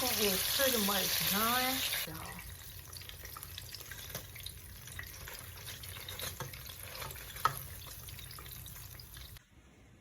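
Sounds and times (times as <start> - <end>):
chicken sizzling in hot oil: 0.0 - 9.4.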